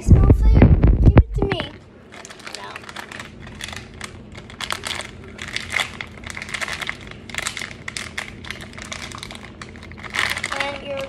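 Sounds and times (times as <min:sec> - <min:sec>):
food packet crinkling: 0:02.0 - 0:11.0.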